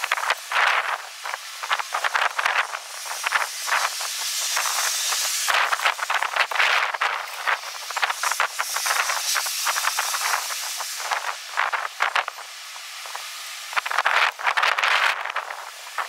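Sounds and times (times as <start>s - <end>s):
strong gusty wind: 0.0s - 16.0s.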